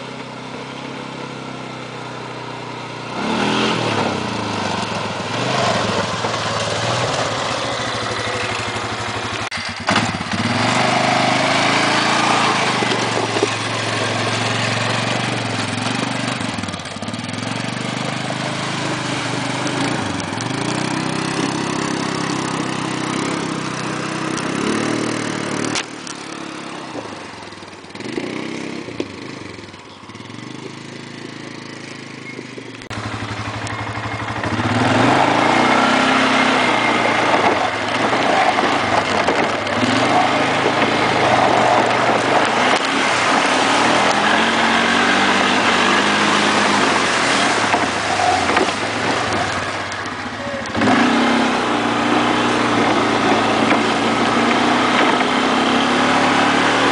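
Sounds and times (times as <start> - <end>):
atv engine revving: 0.0 - 56.9
quad crossing water: 0.0 - 56.9.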